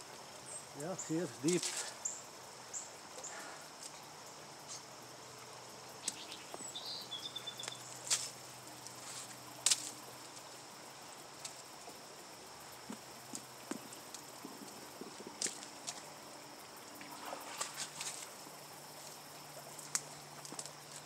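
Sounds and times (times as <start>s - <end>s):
insects calling: 0.0s - 21.0s.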